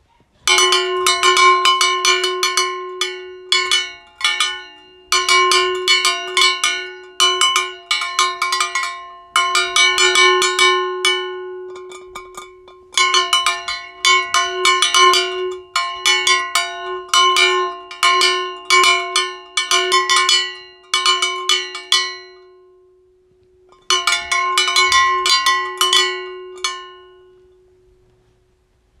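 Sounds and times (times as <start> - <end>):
metallic bell strikes: 0.5 - 28.0.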